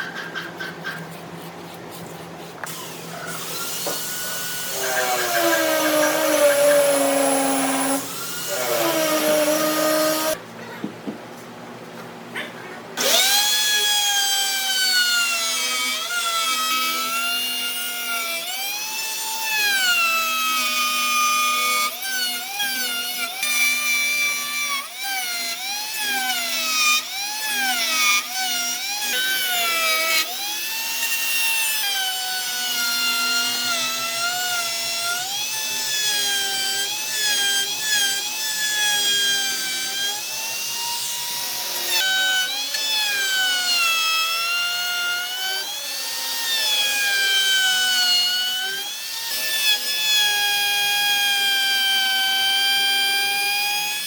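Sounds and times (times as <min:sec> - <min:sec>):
power tool whining into wood: 0:02.6 - 0:10.4, 0:13.0 - 0:54.0.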